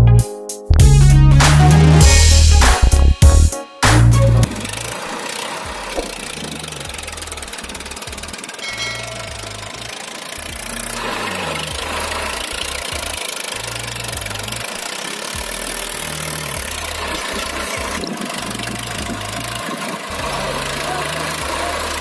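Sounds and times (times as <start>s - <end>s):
tractor engine running: 0.7s - 22.0s.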